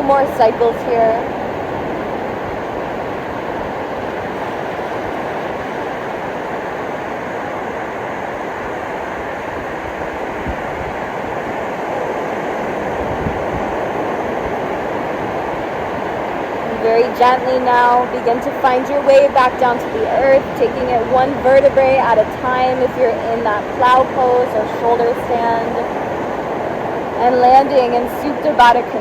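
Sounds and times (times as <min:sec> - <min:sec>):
ocean surf washing onto beach: 0:00.0 - 0:29.0.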